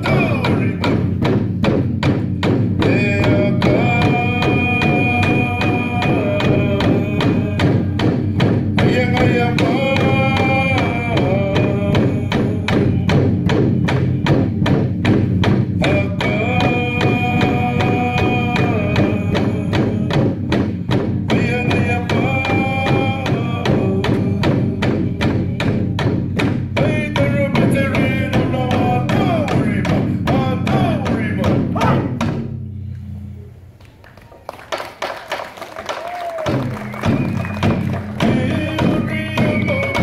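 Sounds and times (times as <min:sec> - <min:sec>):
fast steady drum beat: 0:00.0 - 0:32.5, 0:36.1 - 0:40.0.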